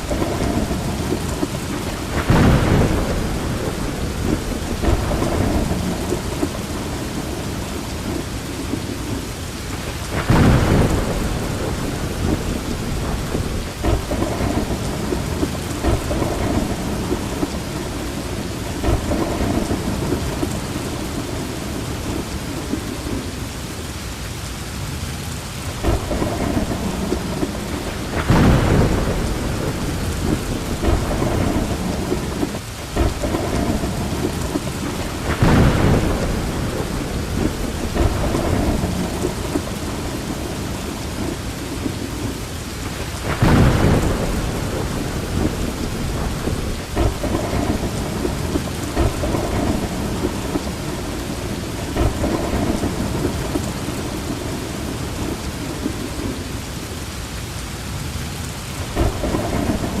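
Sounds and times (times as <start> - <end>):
rumbling thunder: 0.0 - 23.4, 25.7 - 57.0, 58.0 - 60.0
heavy rain: 0.0 - 60.0.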